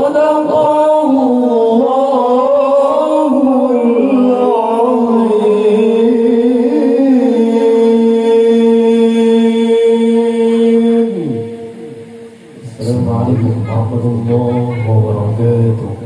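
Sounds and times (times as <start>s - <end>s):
man reciting melodically through pa: 0.0s - 16.0s.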